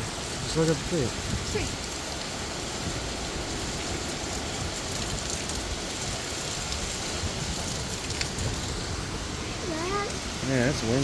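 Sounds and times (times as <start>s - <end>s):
heavy rain pouring: 0.0s - 11.0s
strong wind: 0.0s - 11.0s.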